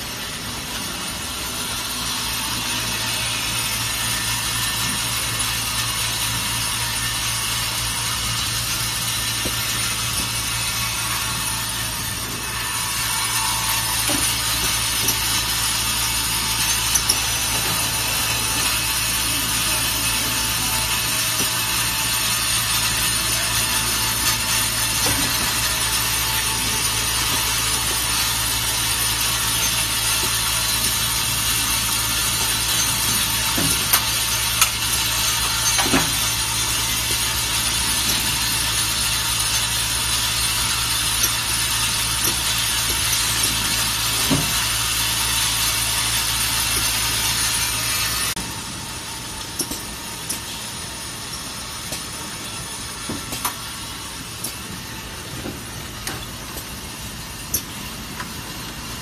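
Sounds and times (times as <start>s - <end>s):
factory machinery noise: 0.0s - 59.0s.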